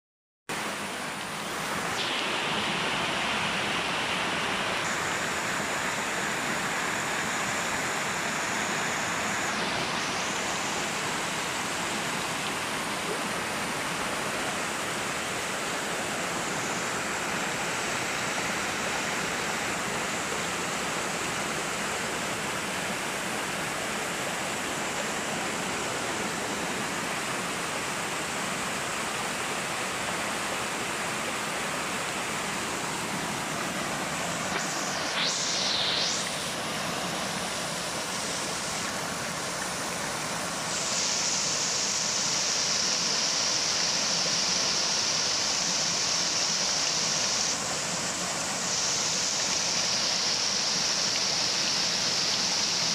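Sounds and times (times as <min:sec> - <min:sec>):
waterfall rushing over rocks: 0:00.5 - 0:52.9.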